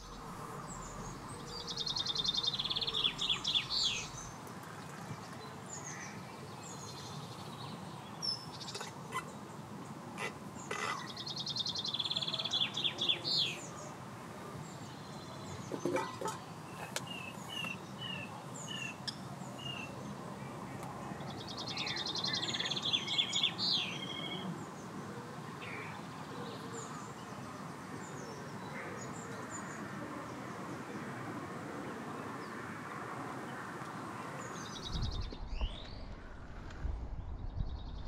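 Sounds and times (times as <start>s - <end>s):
songbirds singing trilled song: 0.0s - 14.0s, 14.6s - 31.3s, 33.5s - 36.2s.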